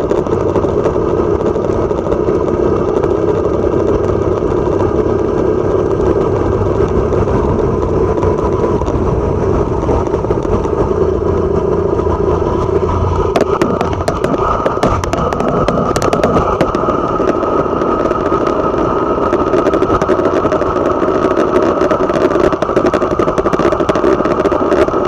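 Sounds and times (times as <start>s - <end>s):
motorcycle engine running: 0.0s - 25.0s
road and wind noise: 0.0s - 25.0s.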